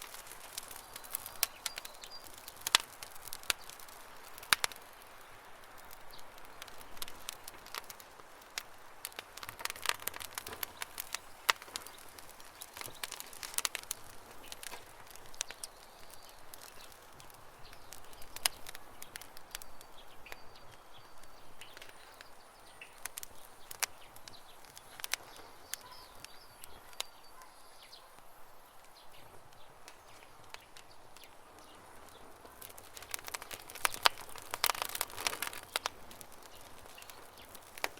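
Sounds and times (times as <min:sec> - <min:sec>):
campfire crackling and popping: 0:00.0 - 0:37.9
faint birds chirping: 0:00.0 - 0:37.9.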